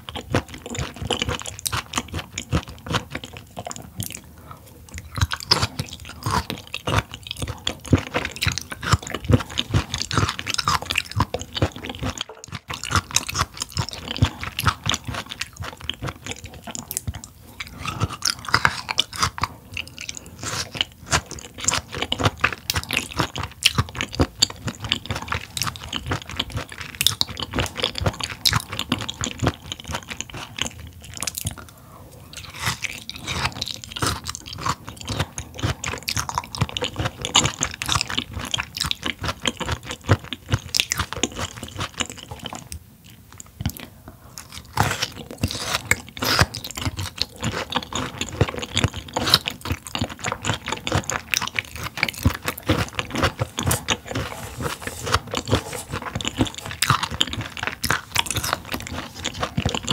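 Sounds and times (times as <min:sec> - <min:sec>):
wet crunchy chewing: 0:00.0 - 0:59.9.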